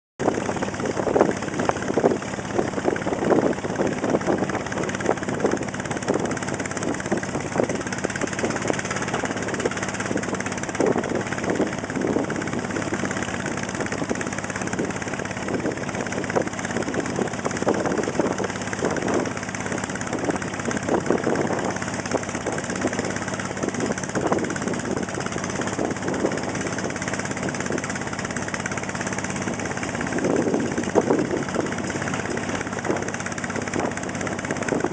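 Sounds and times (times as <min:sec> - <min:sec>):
motor boat engine running: 0:00.2 - 0:34.9
rushing water wash: 0:00.2 - 0:34.9.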